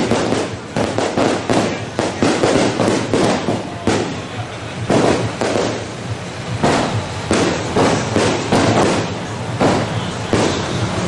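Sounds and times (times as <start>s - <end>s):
fireworks and firecrackers banging: 0.0s - 11.0s.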